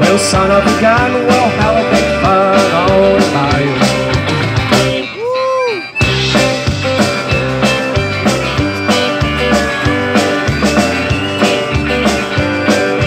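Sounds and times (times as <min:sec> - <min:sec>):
acoustic and electric guitars: 0:00.0 - 0:13.0
drum kit beat: 0:00.0 - 0:13.0.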